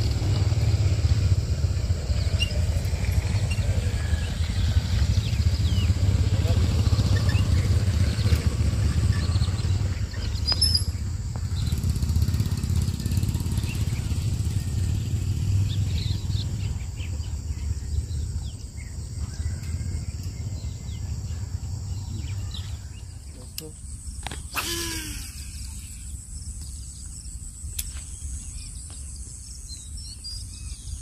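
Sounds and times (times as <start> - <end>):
faint bird chirps: 2.0 - 31.0.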